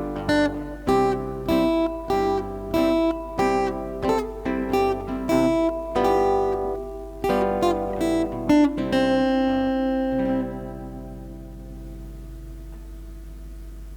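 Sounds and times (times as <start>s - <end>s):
acoustic guitar strumming: 0.0s - 13.9s
steady low hum: 0.0s - 13.9s.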